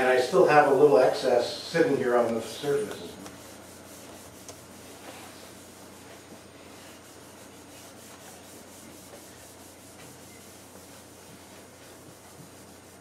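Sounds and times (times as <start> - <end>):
pad scrubbing wood: 2.1 - 13.0.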